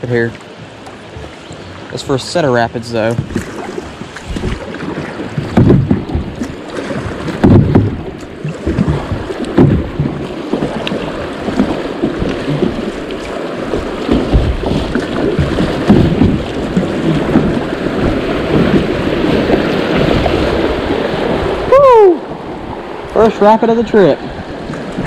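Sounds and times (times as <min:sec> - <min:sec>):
paddle strokes in water: 0:00.0 - 0:25.0
water rushing along a hull: 0:00.0 - 0:25.0
wind buffeting microphone: 0:02.6 - 0:25.0.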